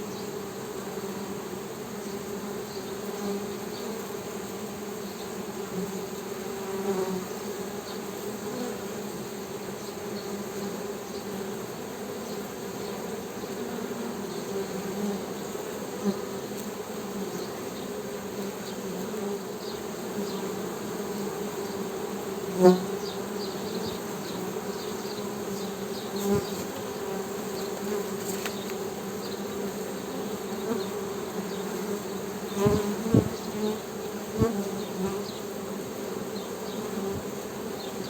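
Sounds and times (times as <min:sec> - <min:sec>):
bees buzzing: 0:00.1 - 0:38.0.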